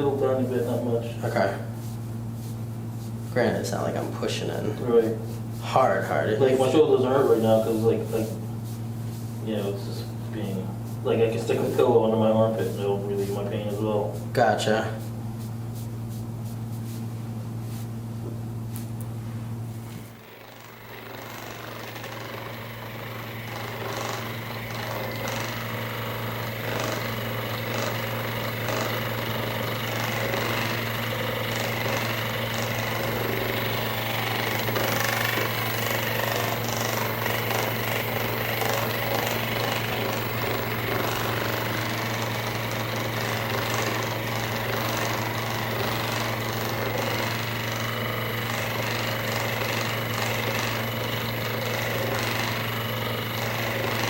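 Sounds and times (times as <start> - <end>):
massage gun buzzing and hammering: 0.0 - 54.0.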